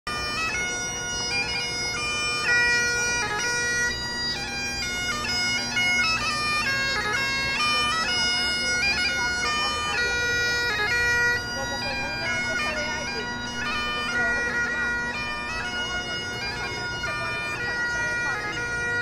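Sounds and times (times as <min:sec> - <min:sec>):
bagpipes playing a melody: 0:00.1 - 0:19.0.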